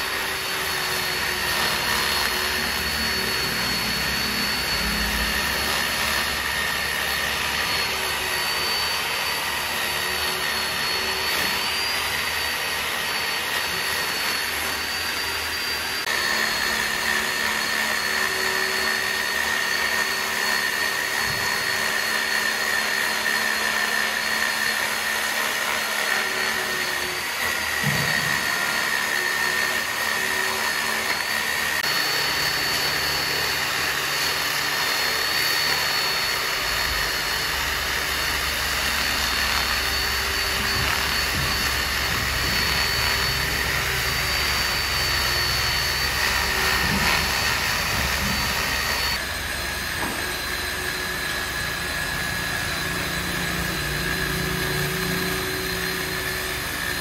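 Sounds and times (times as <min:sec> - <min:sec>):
sawmill machinery hum and whine: 0:00.0 - 0:57.0.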